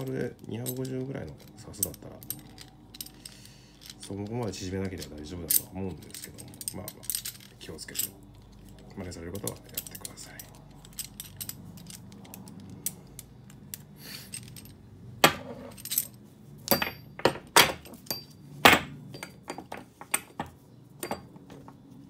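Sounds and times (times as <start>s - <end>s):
metal spring clinks and knocks: 0.0s - 21.8s.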